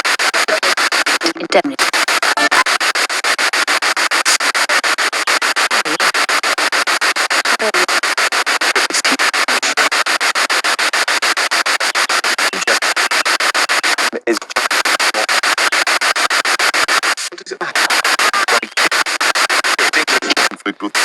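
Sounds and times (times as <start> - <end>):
faint radio snatches: 0.0 - 21.0
pulsing radio static: 0.0 - 21.0.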